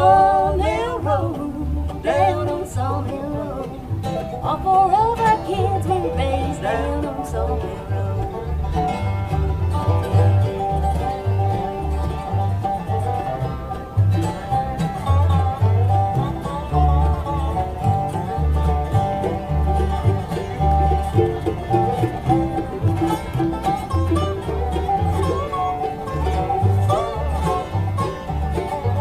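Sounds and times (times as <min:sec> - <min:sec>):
banjo picking: 0:00.0 - 0:29.0
bluegrass band playing: 0:00.0 - 0:29.0
double bass notes: 0:00.0 - 0:29.0
guitar: 0:00.0 - 0:29.0.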